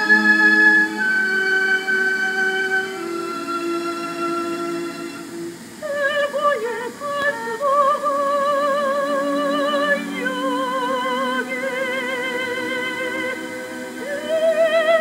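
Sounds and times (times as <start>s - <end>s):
high voice singing with vibrato: 0.0s - 15.0s.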